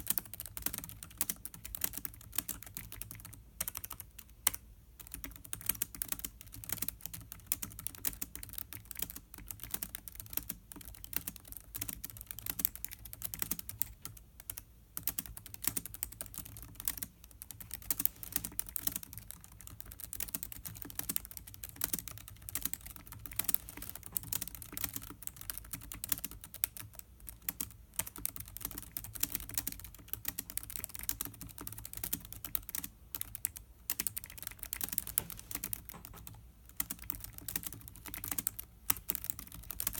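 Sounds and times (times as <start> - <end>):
typing on laptop keyboard: 0.0 - 39.9.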